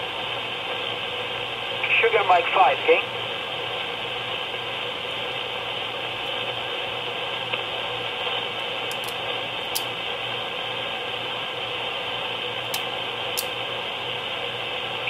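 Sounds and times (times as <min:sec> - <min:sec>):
radio band noise hiss: 0:00.0 - 0:15.0.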